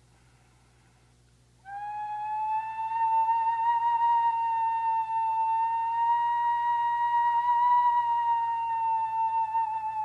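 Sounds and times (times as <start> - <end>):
stone flute long whistle-like note: 1.6 - 10.0.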